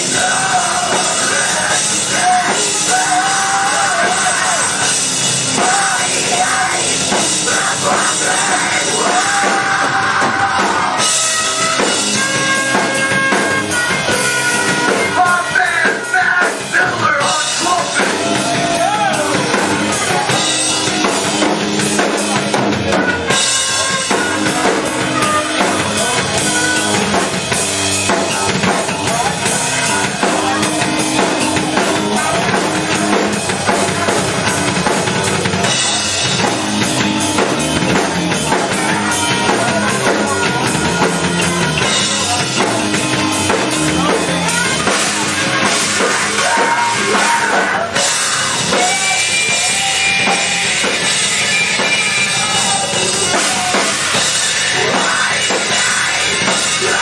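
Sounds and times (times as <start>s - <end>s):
drum kit: 0.0s - 57.0s
electric guitar and bass: 0.0s - 57.0s
vocalists singing: 0.0s - 57.0s.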